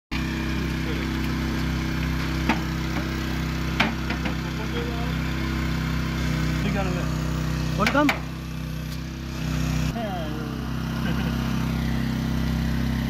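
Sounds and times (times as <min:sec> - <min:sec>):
engine humming: 0:00.1 - 0:13.0.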